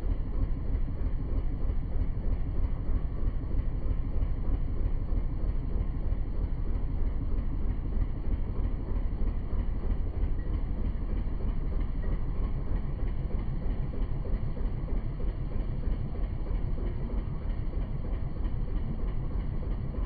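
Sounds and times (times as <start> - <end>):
low rumble of boat: 0.0 - 20.0.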